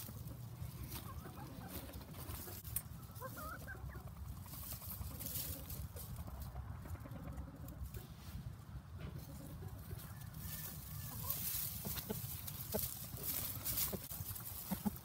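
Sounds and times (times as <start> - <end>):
chickens foraging in dry grass: 0.0 - 15.0
soft chicken clucks: 0.0 - 15.0.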